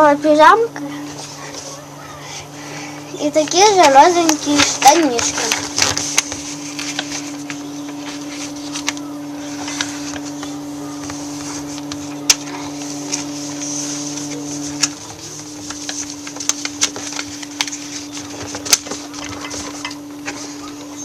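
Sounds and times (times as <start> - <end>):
low electrical hum: 0.0 - 21.0
paper folding and creasing: 3.3 - 21.0.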